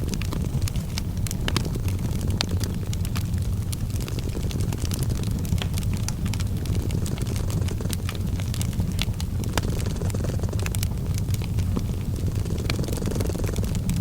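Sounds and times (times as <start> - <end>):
cat purring: 0.0 - 14.0
wood fire crackling: 0.0 - 14.0.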